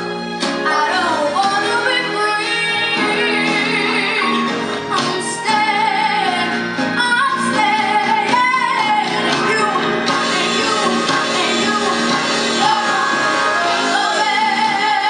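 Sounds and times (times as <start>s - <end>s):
instrumental accompaniment: 0.0s - 15.0s
girl singing soul ballad: 0.6s - 15.0s.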